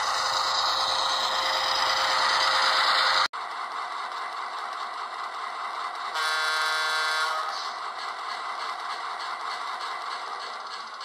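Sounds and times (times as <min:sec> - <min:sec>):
model locomotive engine sound: 0:00.0 - 0:11.0.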